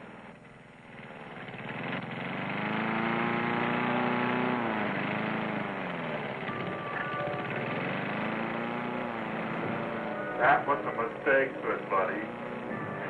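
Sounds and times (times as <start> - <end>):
lawnmower engine running hard: 0.0 - 13.0.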